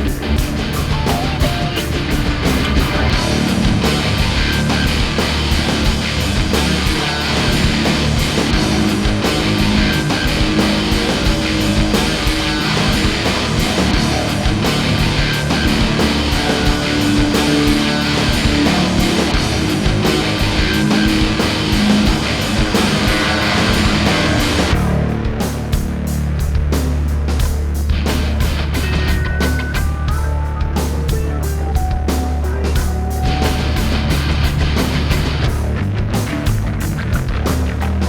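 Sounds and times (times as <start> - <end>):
heavy metal music: 0.0 - 38.0.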